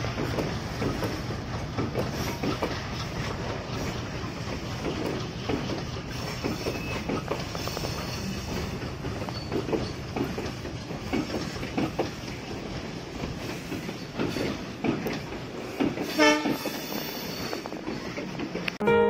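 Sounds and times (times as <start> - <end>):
wheels clattering over rail joints: 0.0 - 18.8
train rumbling: 0.0 - 19.0.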